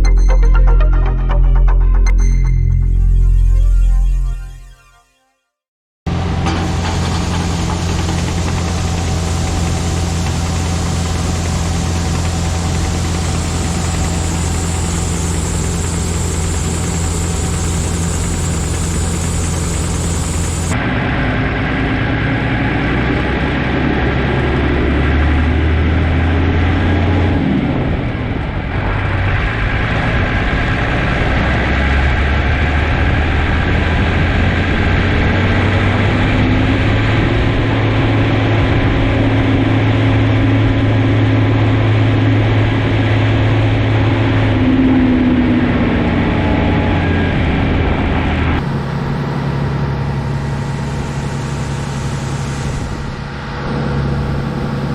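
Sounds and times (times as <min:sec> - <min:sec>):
combine harvester engine drone: 0:06.1 - 0:54.9.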